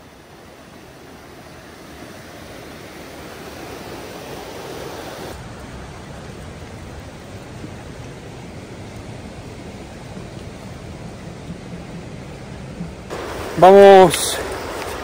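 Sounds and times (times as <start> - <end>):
mountain river rushing: 0.0 - 15.0.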